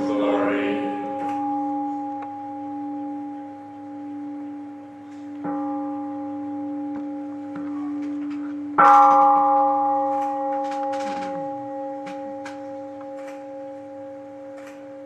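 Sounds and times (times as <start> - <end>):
meditation bowl bell ringing: 0.0 - 15.0.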